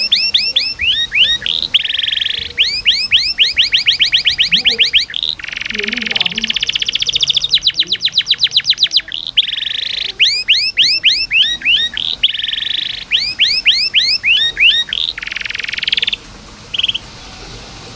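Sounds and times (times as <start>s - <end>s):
canary singing trills and chirps: 0.0s - 17.3s.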